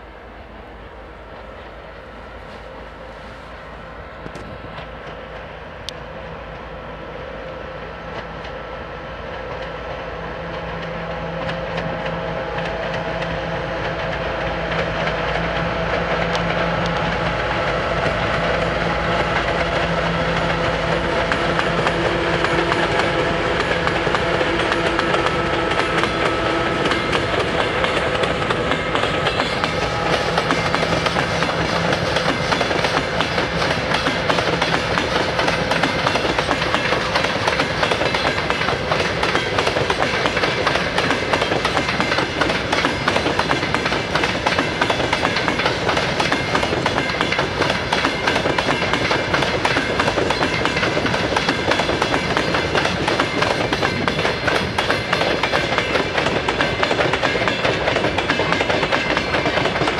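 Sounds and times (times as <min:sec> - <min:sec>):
diesel locomotive engines droning: 0:00.0 - 0:59.9
train wheels clattering over rails: 0:09.2 - 0:59.9.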